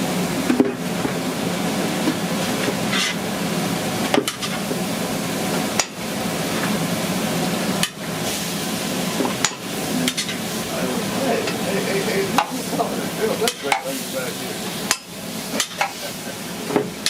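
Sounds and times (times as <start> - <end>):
food sizzling on a grill: 0.2 - 17.0.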